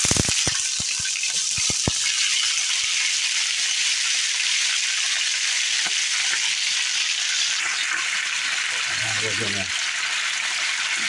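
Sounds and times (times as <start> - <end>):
potatoes sizzling in grease: 0.0 - 11.0.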